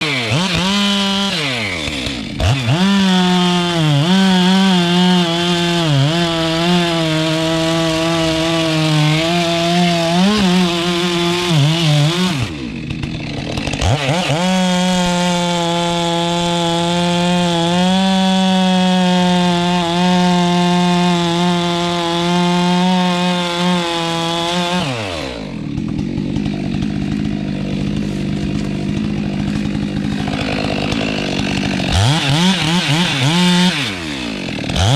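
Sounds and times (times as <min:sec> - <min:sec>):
chainsaw cutting tree: 0:00.0 - 0:34.9.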